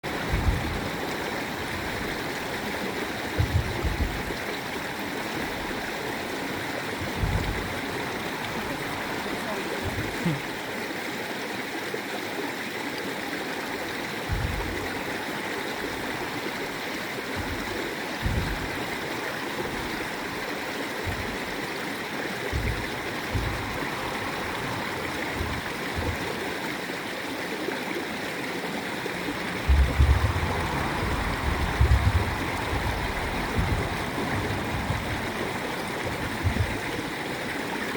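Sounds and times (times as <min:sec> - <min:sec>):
wind rumble on microphone: 0:00.0 - 0:10.5, 0:13.8 - 0:26.9, 0:28.7 - 0:37.9
stream water flowing and gurgling: 0:00.0 - 0:37.9.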